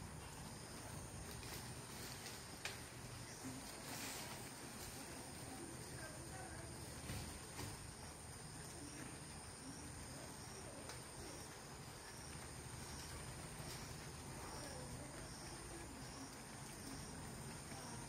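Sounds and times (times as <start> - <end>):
insect chirping: 0.0 - 18.0
insects buzzing: 0.0 - 18.0.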